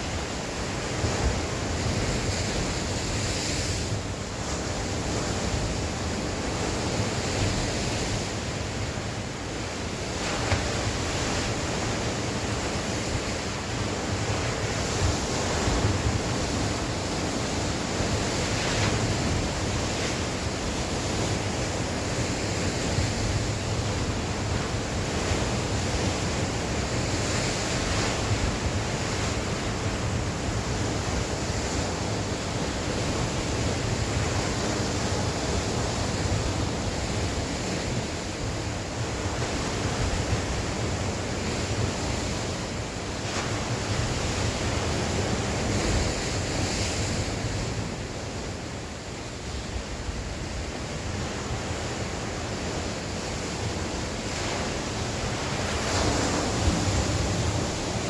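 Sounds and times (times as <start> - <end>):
sea waves breaking on shore: 0.0 - 58.0
wind gusting over microphone: 0.0 - 58.0.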